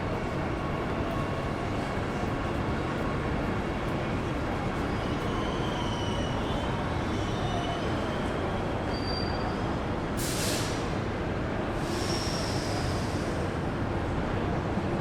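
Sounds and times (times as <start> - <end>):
rail vehicle rumbling on track: 0.0 - 15.0.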